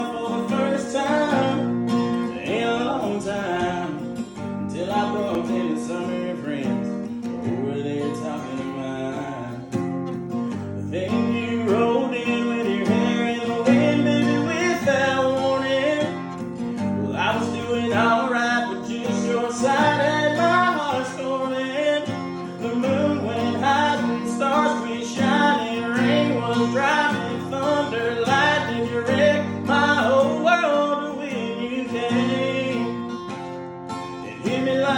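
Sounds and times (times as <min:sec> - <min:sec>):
person singing: 0:00.0 - 0:09.8, 0:10.9 - 0:16.4, 0:17.0 - 0:33.4, 0:34.0 - 0:34.9
country song: 0:00.0 - 0:34.9
strummed acoustic guitar: 0:00.0 - 0:34.9.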